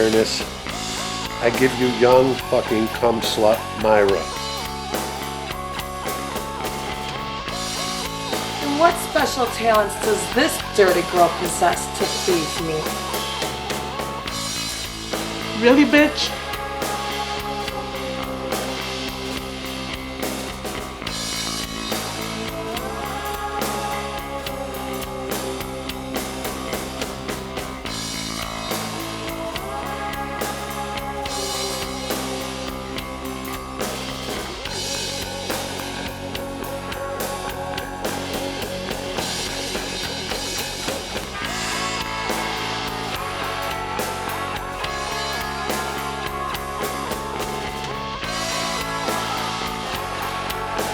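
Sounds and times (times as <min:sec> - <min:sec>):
drum kit beat: 0:00.0 - 0:50.9
electric guitar: 0:00.0 - 0:50.9.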